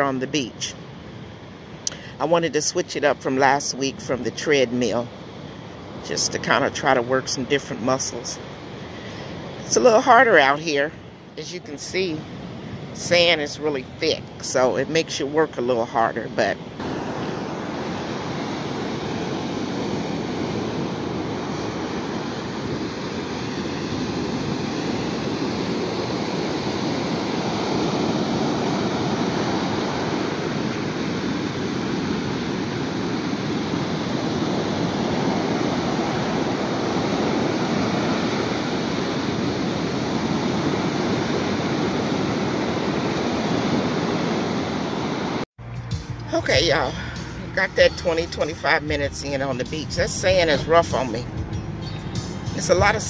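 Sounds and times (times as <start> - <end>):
ocean surf breaking on beach: 0.0 - 45.5.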